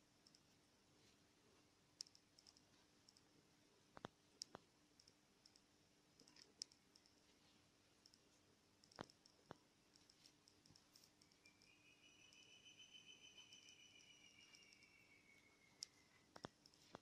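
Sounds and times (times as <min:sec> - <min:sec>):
small irregular clicks: 0:00.0 - 0:12.6, 0:13.2 - 0:17.0
faint steady hum: 0:00.0 - 0:17.0.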